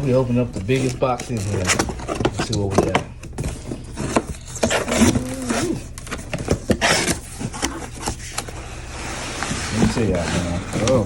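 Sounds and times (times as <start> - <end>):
packing tape and cardboard tearing: 0.0 - 11.0.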